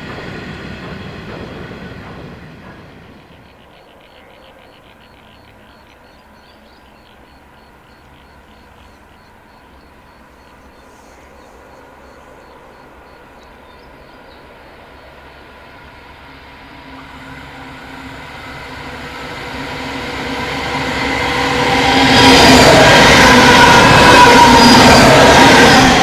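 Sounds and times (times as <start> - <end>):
diesel locomotive engines: 0.0 - 26.0
train wheel noise: 0.0 - 26.0.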